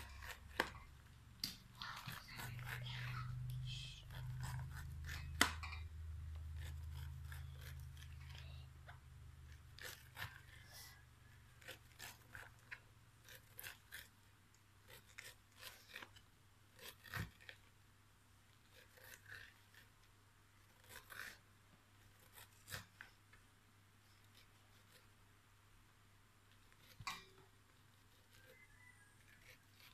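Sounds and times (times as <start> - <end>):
knife cutting corn kernels: 0.0 - 17.8, 18.6 - 20.0, 20.6 - 21.4, 22.0 - 23.2, 26.5 - 29.9.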